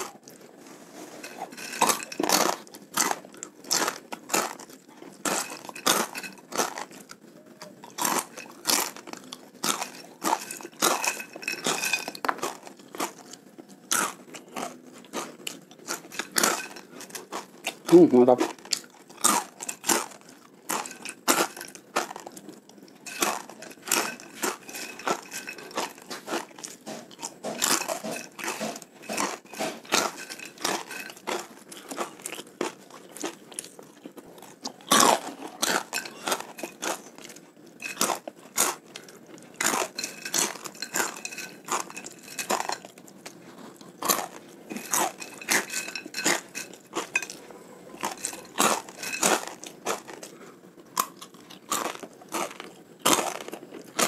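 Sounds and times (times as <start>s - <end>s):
crunchy snack chewing: 0.0s - 54.0s.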